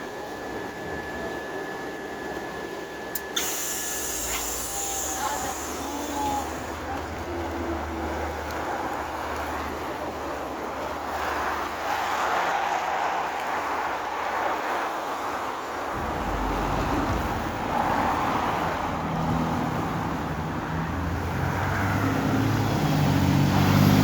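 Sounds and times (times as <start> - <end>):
bus engine: 0.0 - 24.0
road noise: 0.0 - 24.0.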